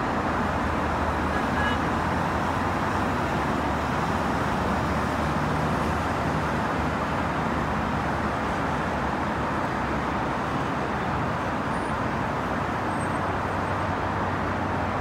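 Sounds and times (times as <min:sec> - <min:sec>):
highway traffic noise: 0:00.0 - 0:15.0.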